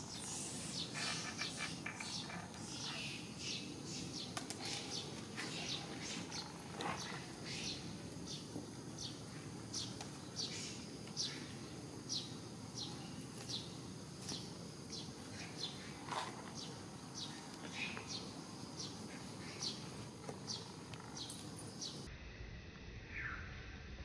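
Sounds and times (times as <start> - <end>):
bird chirping: 0.0 - 22.1.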